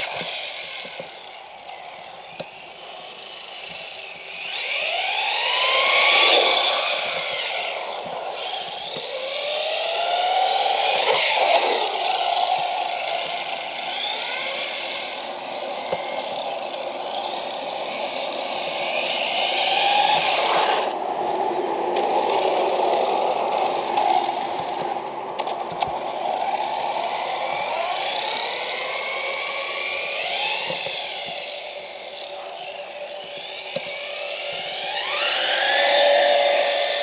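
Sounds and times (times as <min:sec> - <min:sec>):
electric motor whining: 0:00.0 - 0:37.0.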